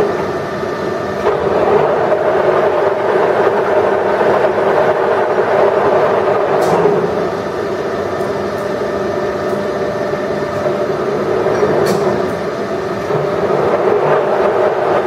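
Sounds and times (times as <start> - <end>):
lathe mechanical hum: 0.0 - 15.0.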